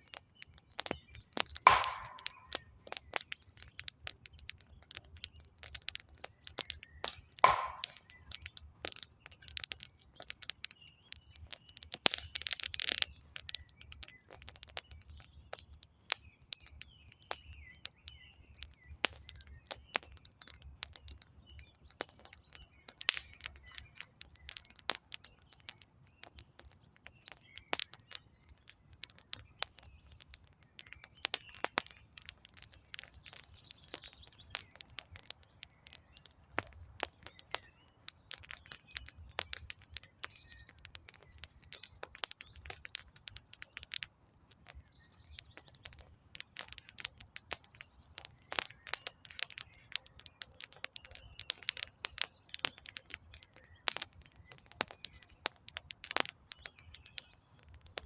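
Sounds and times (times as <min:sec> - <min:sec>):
campfire crackling and popping: 0:00.0 - 0:58.0
faint birds chirping: 0:00.0 - 0:58.0.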